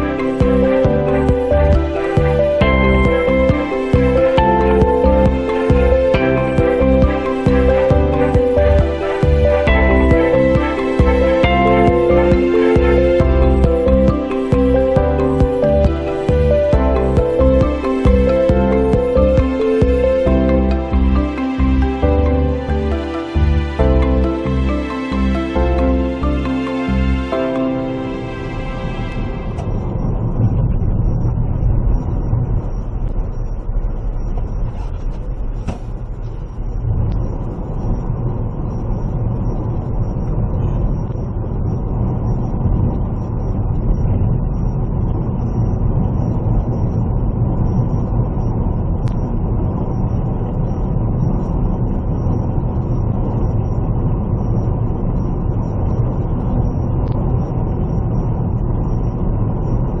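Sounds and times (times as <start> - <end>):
vehicle engine and road noise: 0.0 - 60.0.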